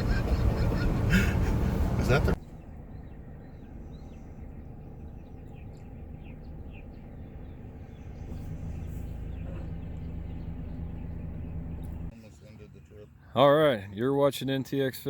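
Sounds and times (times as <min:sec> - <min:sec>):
vehicle engine and road rumble: 0:00.0 - 0:13.2
birds chirping: 0:00.0 - 0:13.3.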